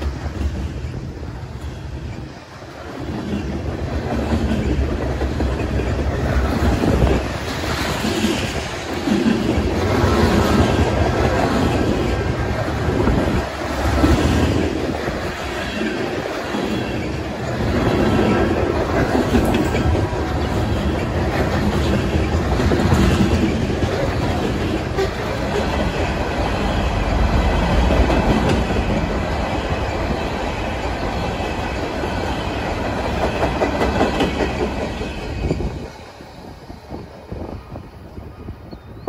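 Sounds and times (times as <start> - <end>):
wheels clacking on rails: 0.0 - 37.8
freight train rolling past: 0.0 - 39.0.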